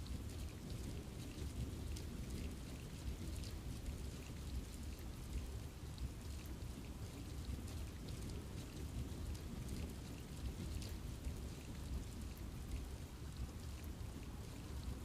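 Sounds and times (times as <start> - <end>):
rain falling on a forest: 0.0 - 15.0
raindrops ticking on leaves: 0.0 - 15.0.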